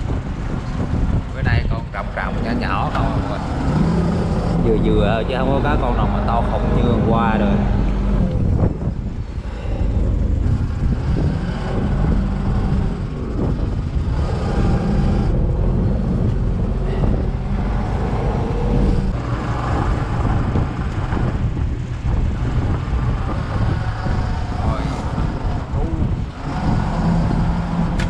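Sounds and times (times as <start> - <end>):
boat engine humming: 0.0 - 28.0
constant rush of noise: 0.0 - 28.0.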